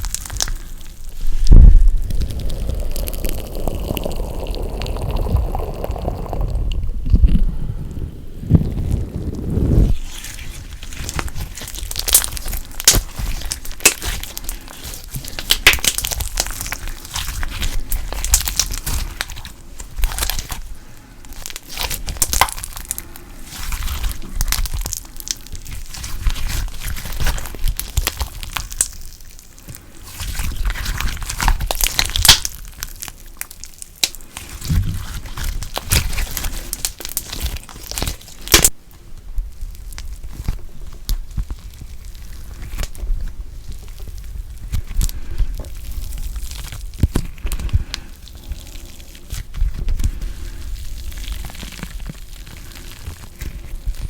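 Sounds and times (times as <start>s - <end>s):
slime squished by hand: 0.0s - 7.6s, 8.3s - 54.0s.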